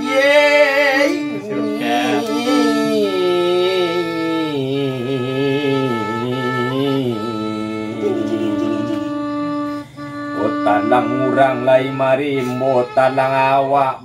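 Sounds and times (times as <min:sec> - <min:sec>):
bowed violin melody: 0:00.0 - 0:14.0.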